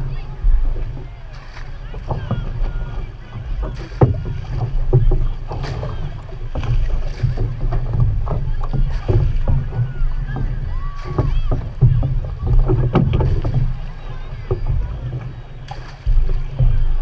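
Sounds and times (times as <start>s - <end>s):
paddles splashing: 0.0s - 17.0s
water slapping along hull: 0.0s - 17.0s
wind on microphone: 0.0s - 17.0s.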